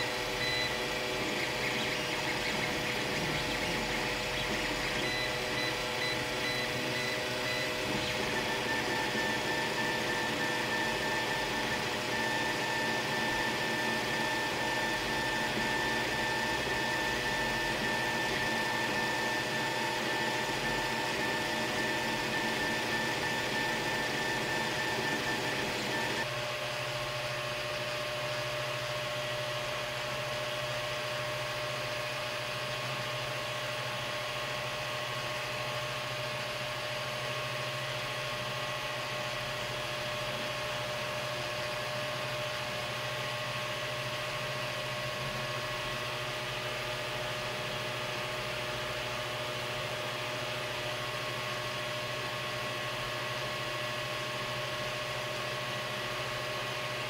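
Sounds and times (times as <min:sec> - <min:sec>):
cooling fans whirring: 0:00.0 - 0:57.0.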